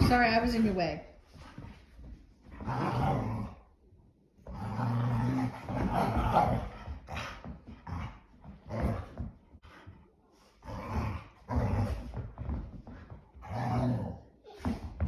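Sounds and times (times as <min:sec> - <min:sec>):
dogs play-growling: 0:00.4 - 0:15.0.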